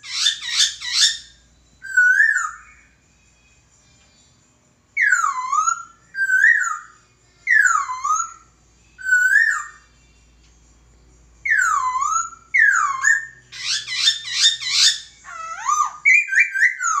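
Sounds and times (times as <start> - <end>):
bird singing whistled notes: 0.0 - 3.0, 4.9 - 9.9, 11.4 - 17.0.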